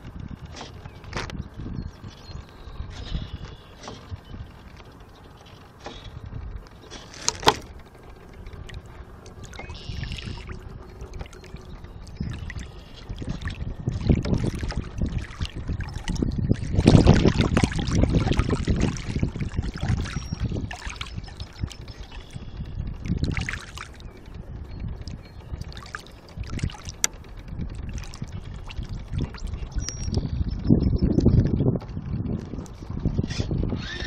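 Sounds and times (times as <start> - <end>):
water splashing against small hull: 0.0 - 30.3.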